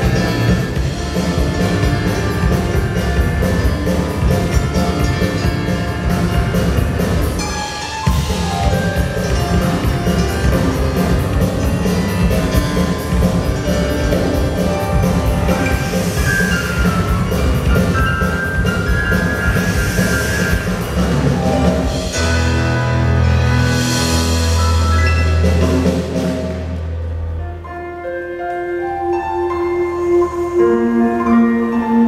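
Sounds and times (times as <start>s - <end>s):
drum kit: 0.0s - 27.9s
live band playing instrumental: 0.0s - 32.0s.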